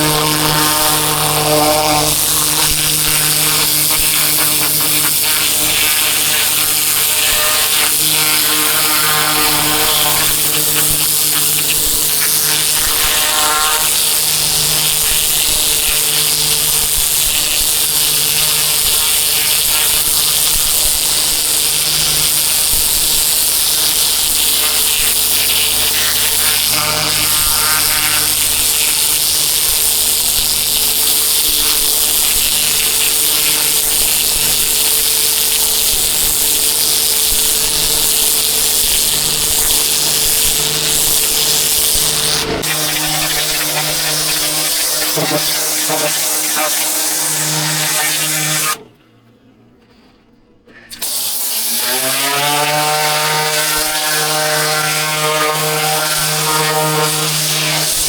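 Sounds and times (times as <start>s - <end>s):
high-pressure water jet hissing: 0.0s - 48.8s, 50.9s - 58.0s
pressure washer motor humming: 0.0s - 49.0s, 50.9s - 58.0s.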